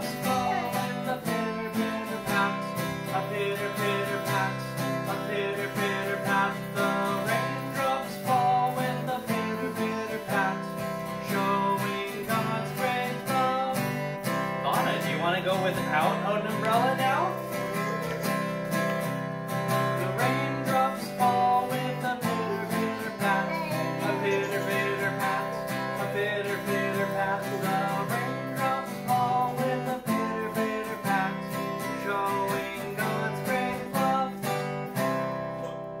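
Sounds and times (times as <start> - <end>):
voices singing a children's song: 0.0 - 14.0, 14.6 - 34.7
acoustic guitar strumming: 0.0 - 36.0.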